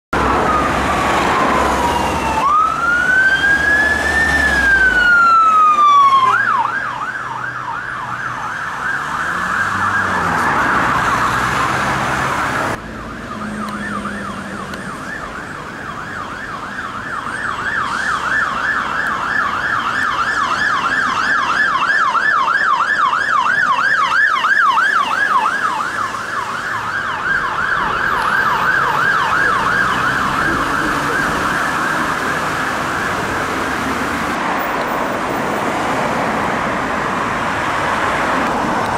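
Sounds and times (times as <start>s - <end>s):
higher siren yelp: 0.3s - 11.9s, 12.7s - 34.2s
siren wailing and yelping: 0.3s - 34.3s.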